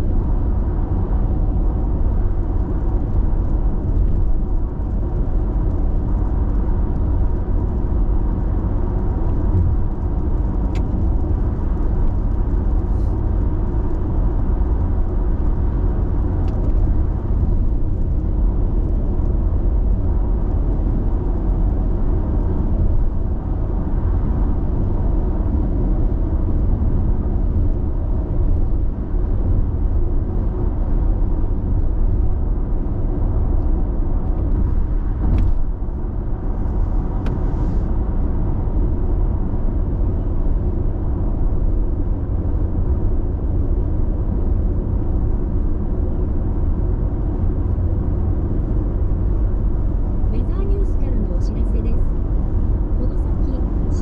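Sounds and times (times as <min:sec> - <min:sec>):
engine hum: 0:00.0 - 0:54.0
tyre and road noise: 0:00.0 - 0:54.0.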